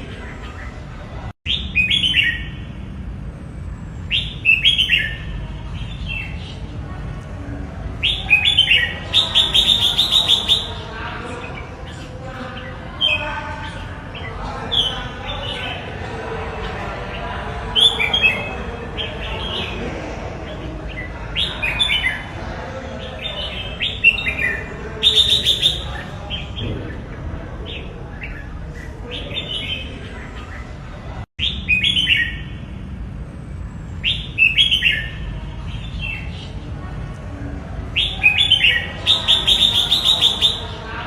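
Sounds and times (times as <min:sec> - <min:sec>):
low background noise: 0:00.0 - 0:41.0.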